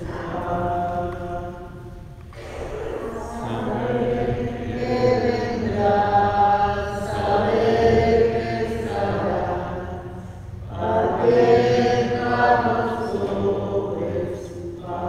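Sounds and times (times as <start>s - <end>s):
voices singing a hymn: 0.0s - 15.0s.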